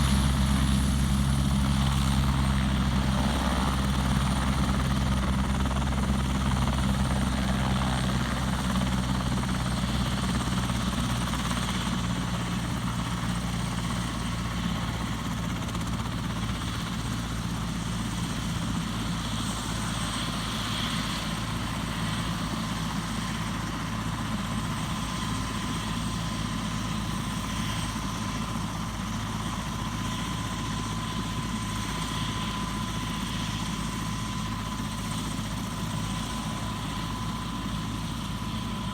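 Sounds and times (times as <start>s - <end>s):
helicopter rotor beat: 0.0s - 38.9s.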